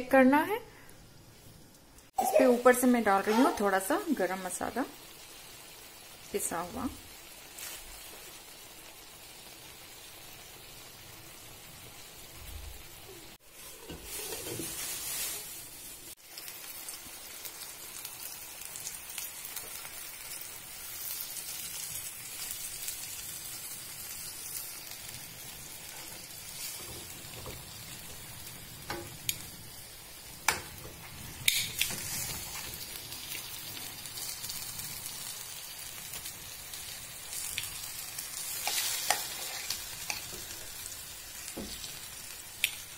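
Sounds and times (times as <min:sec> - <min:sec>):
chicken sizzling in oil: 0:02.1 - 0:42.9.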